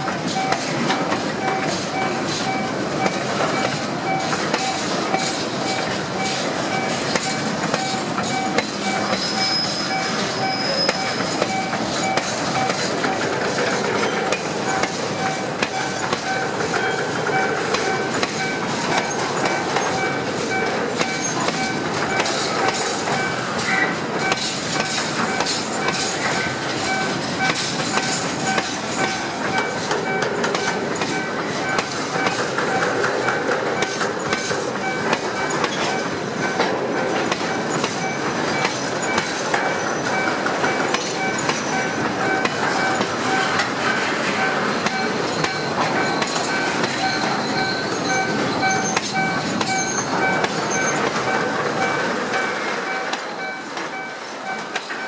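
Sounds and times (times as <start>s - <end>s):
crossing signal warning tone: 0.0s - 55.0s
train wheels clattering on rails: 0.0s - 55.0s.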